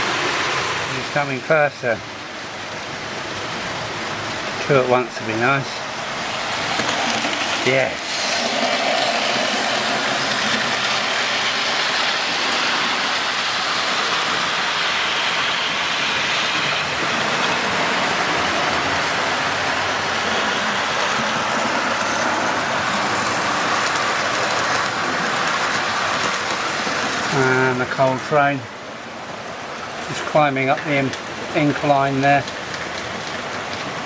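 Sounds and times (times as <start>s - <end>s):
model trains running on track: 0.0s - 34.0s.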